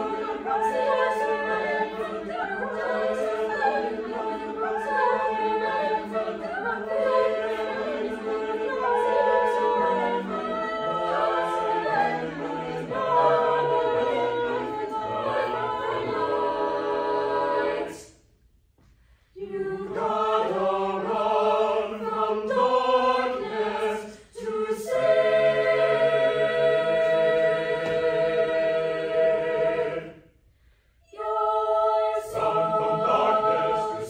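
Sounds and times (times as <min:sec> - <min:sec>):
mixed choir singing a cappella: 0:00.0 - 0:18.4, 0:19.3 - 0:34.0.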